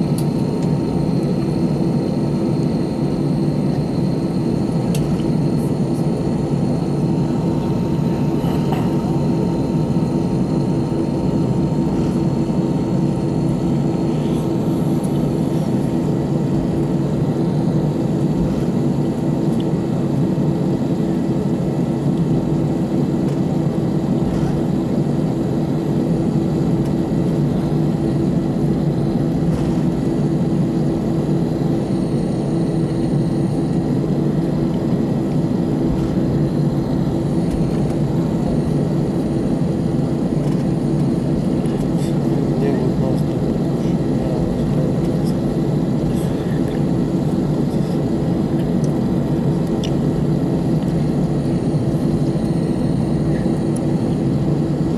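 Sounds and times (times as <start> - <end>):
airplane cabin engine drone: 0.0 - 54.9.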